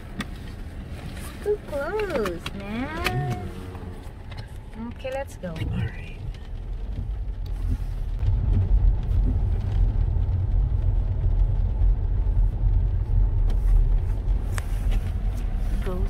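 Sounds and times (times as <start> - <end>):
car pulling away rumble: 0.0 - 16.0.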